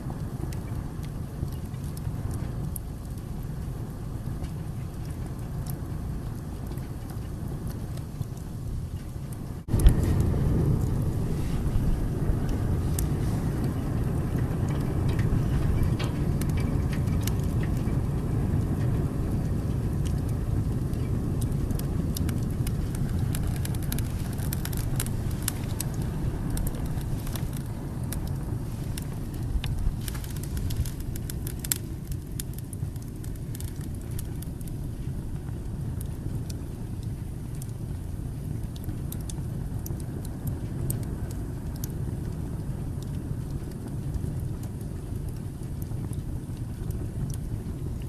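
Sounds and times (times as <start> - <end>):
fire crackling and popping: 0.0 - 48.0
fire flames rumbling: 0.0 - 48.0.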